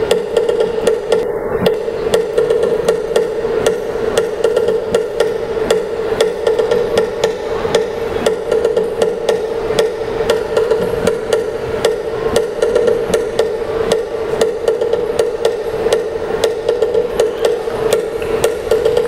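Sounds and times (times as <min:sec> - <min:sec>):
percussion strikes: 0:00.0 - 0:19.0.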